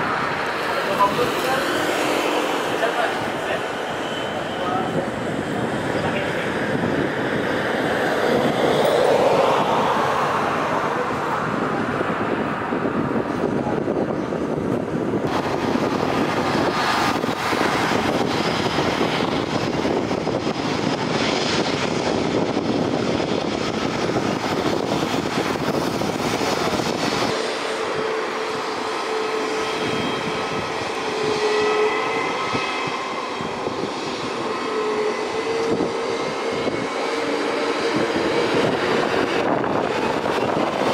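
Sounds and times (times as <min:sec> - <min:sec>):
jet engine whine while taxiing: 0:00.0 - 0:40.9
jet engines roaring on takeoff: 0:00.0 - 0:40.9.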